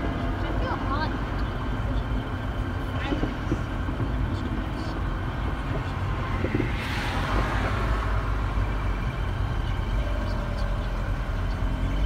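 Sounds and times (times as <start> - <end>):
road traffic rumble inside car: 0.0 - 12.0.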